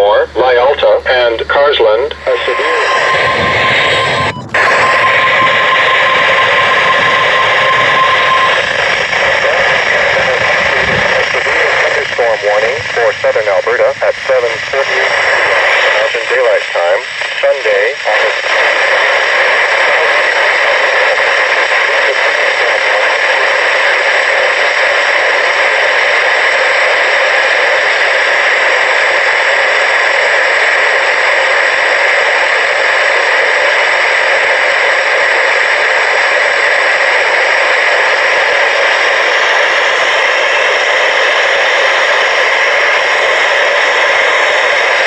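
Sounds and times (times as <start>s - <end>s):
radio static hiss: 0.0s - 45.0s.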